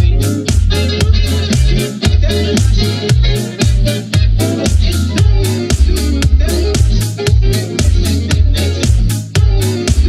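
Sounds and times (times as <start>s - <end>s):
background music with steady beat: 0.0s - 10.0s
deep bass line: 0.0s - 10.0s.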